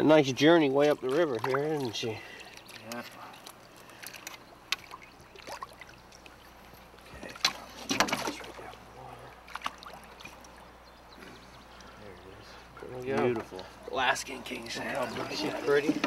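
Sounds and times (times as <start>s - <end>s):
water splashing and sloshing: 0.0s - 16.0s.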